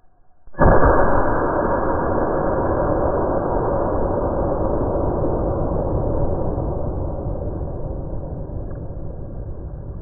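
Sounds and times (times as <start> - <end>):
slowed-down shotgun blast rumble: 0.6 - 10.0.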